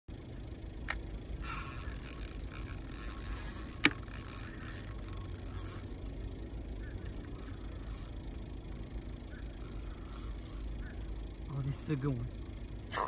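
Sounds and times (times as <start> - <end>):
fishing reel mechanism: 0.8 - 13.0.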